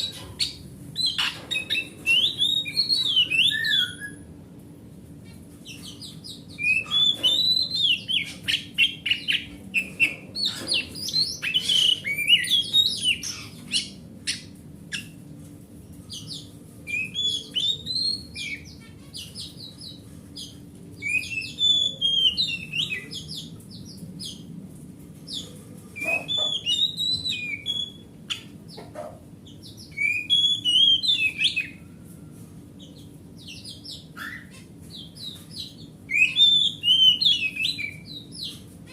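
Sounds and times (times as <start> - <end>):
magpie-robin singing: 0.0 - 4.3, 5.3 - 15.2, 16.1 - 24.5, 25.3 - 31.8, 32.8 - 38.9.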